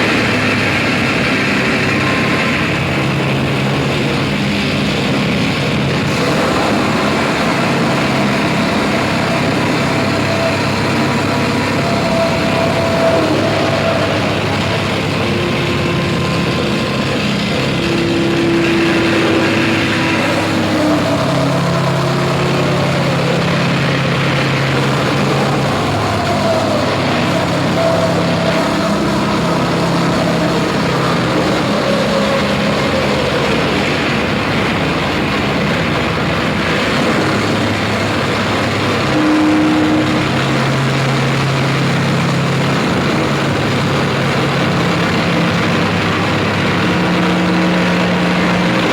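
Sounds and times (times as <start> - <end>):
low droning tones: 0.0 - 48.9
wall of distorted noise: 0.0 - 48.9.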